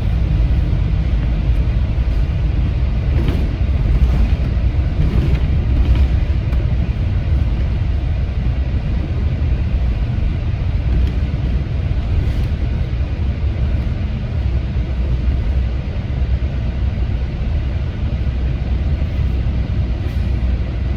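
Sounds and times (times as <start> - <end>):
bus engine and road rumble: 0.0 - 20.9.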